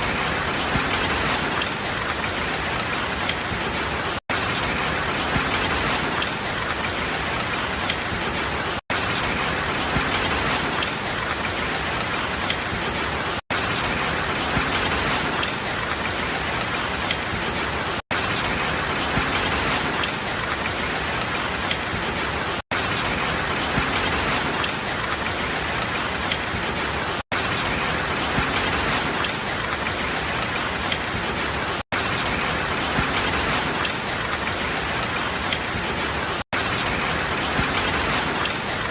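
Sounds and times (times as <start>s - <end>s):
steady rain falling: 0.0s - 38.9s
water drops ticking: 0.0s - 38.9s.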